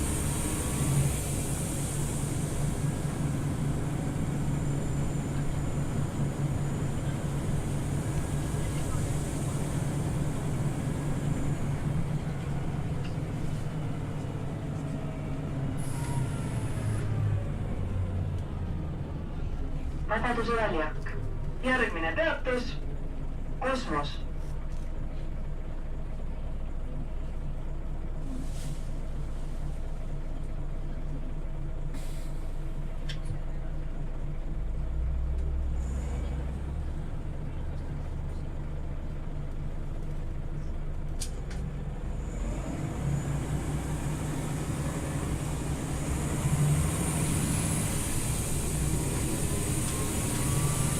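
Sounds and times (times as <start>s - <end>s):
bus engine drone: 0.0s - 50.9s
road noise: 0.0s - 50.9s.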